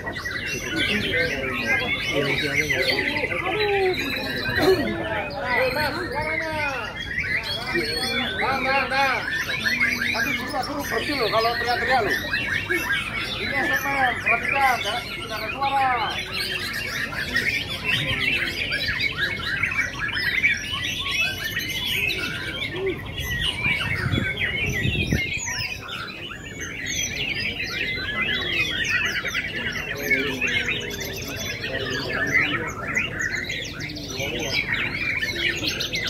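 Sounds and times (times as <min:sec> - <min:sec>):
chorus of birds singing: 0:00.0 - 0:36.0.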